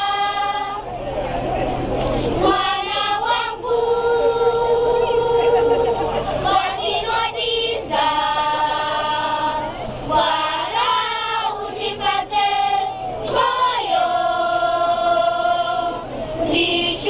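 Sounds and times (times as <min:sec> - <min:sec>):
children's choir singing: 0:00.0 - 0:01.0, 0:02.2 - 0:17.0.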